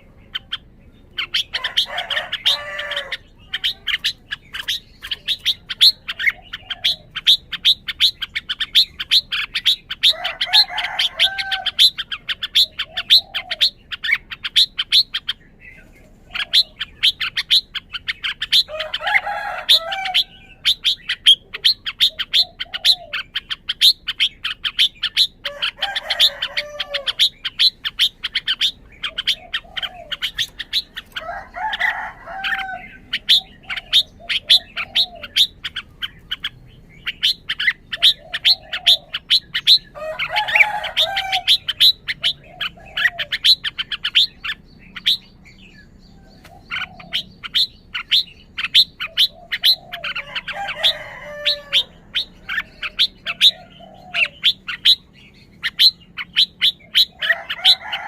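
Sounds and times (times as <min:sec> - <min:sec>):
bird warbling song: 0:00.0 - 0:58.0.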